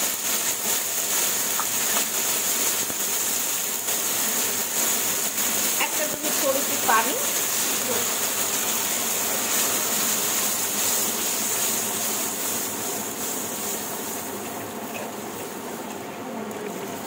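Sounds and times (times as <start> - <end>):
paste frying in hot oil: 0.0 - 17.0.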